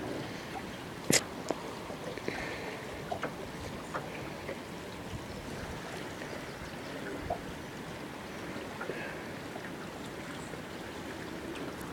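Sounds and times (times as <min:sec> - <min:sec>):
river water rushing: 0:00.0 - 0:11.9
water splashing and gurgling: 0:00.0 - 0:11.9.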